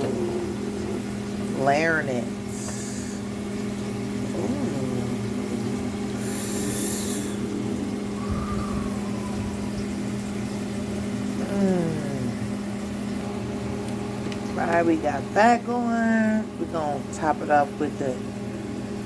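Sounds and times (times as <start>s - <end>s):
kitchen appliance humming: 0.0s - 19.0s.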